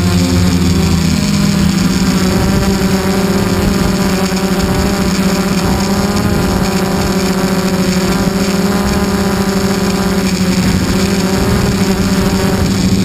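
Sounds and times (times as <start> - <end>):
model airplane motor drone: 0.0 - 13.0.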